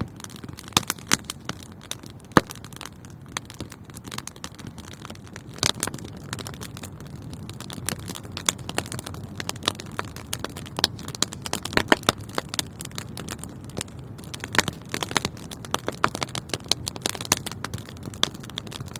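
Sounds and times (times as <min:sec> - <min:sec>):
wood fire crackling: 0:00.0 - 0:18.9.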